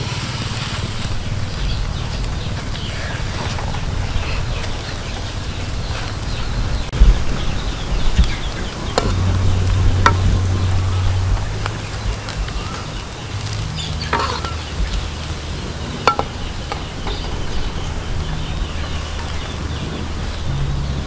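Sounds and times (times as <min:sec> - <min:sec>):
chickens clucking: 0:00.0 - 0:21.0
steady low rumble: 0:00.0 - 0:21.0.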